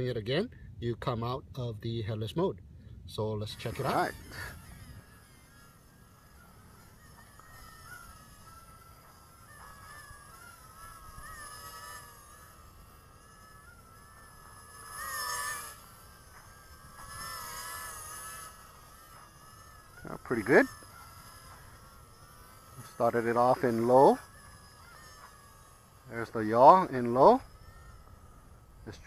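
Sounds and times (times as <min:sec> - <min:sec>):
drone motors and propellers whining: 0:02.8 - 0:29.0.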